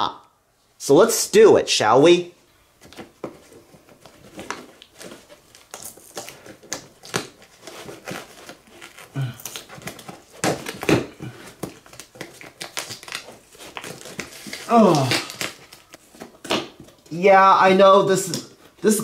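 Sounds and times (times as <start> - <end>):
crinkling tape and cardboard: 2.8 - 19.0.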